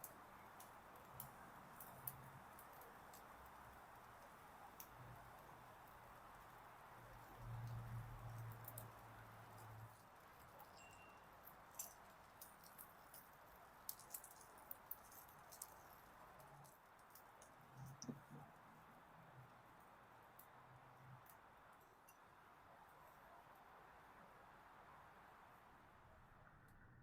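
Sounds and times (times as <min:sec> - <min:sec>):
light clicks and ticks: 0:00.0 - 0:22.3
faint steady hiss: 0:00.0 - 0:27.0.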